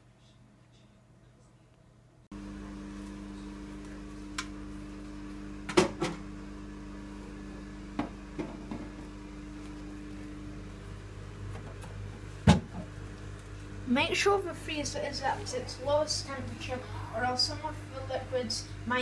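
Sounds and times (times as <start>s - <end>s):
freezer hum: 2.3s - 19.0s.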